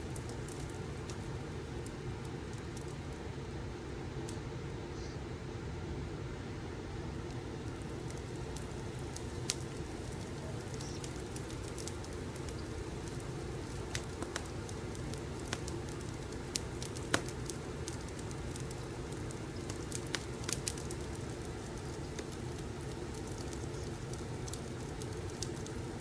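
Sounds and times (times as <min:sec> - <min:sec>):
fire popping and snapping: 0:00.0 - 0:04.4, 0:06.8 - 0:26.0
low rumble of burning: 0:00.0 - 0:26.0.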